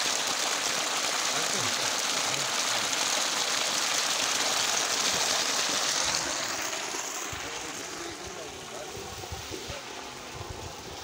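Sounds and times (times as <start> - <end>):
water gushing onto gravel: 0.0 - 11.0.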